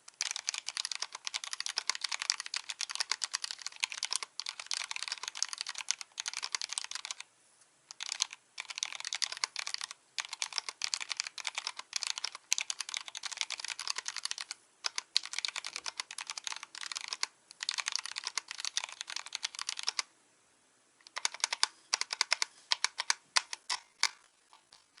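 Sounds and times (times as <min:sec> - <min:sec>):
mechanical keyboard typing: 0:00.1 - 0:07.3, 0:07.9 - 0:20.1, 0:21.0 - 0:25.0.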